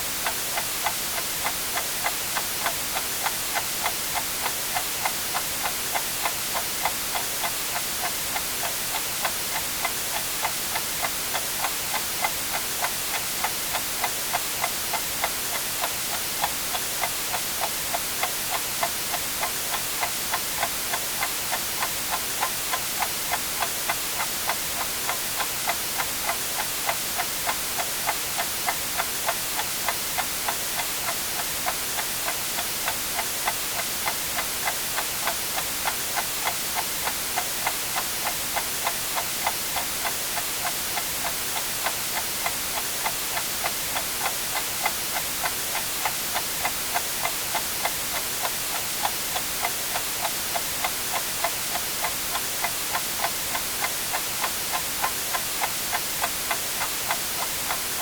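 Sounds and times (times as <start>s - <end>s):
white noise hiss: 0.0s - 58.0s
clock ticking: 0.2s - 58.0s.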